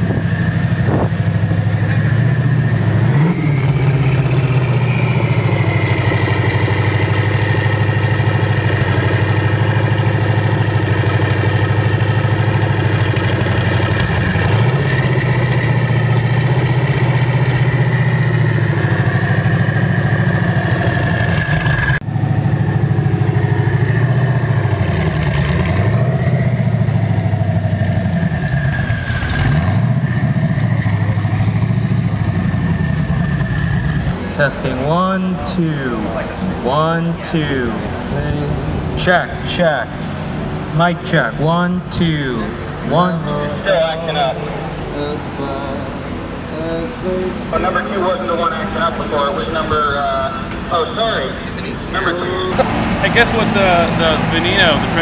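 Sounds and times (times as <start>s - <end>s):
car engine idling: 0.0s - 55.0s
high whine: 0.0s - 55.0s.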